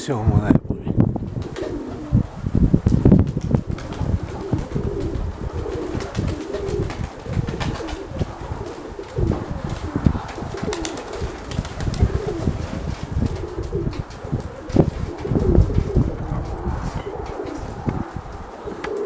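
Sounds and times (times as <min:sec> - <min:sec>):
wind buffeting microphone: 0:00.0 - 0:19.0
pigeons cooing: 0:01.3 - 0:02.4, 0:03.3 - 0:19.0.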